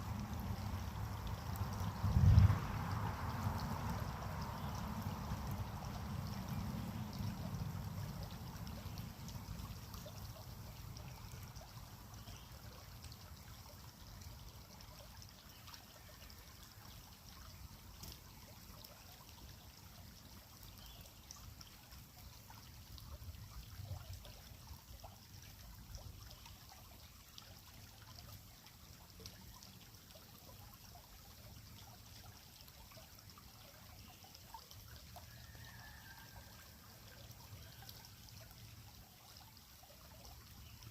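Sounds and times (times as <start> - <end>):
creek water trickling: 0.0 - 40.9.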